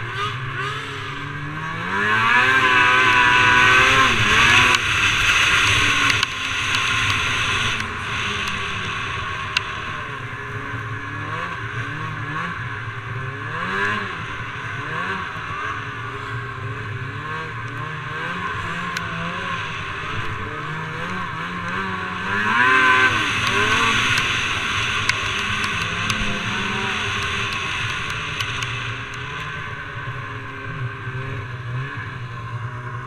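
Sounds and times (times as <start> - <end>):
snowmobile engine revving: 0.0 - 33.0.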